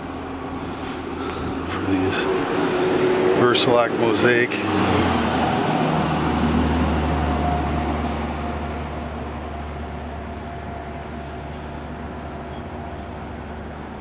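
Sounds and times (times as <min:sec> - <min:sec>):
passing traffic: 0:00.0 - 0:14.0.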